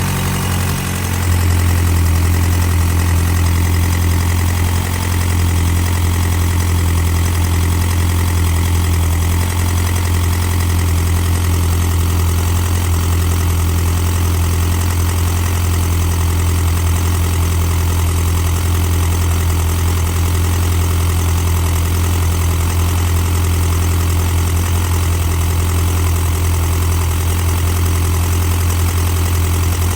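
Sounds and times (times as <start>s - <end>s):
engine running with clatter: 0.0s - 29.9s.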